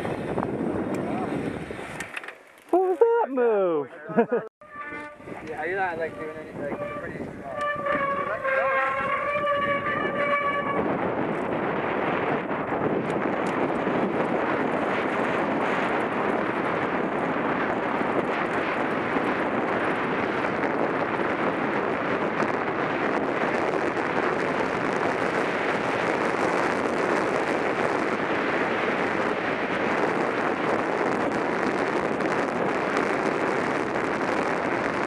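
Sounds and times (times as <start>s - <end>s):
wind rushing over microphone: 0.0s - 2.2s, 2.8s - 35.0s
bike tyres rolling on dirt: 0.0s - 3.4s, 4.7s - 35.0s
bike rattling: 0.0s - 35.0s.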